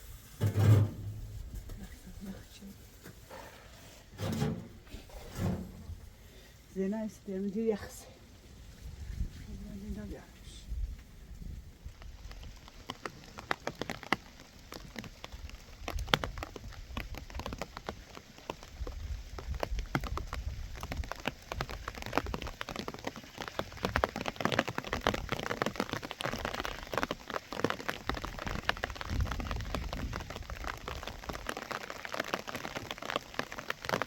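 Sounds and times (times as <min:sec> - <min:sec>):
rain pattering on a surface: 0:01.0 - 0:04.2, 0:05.8 - 0:34.0.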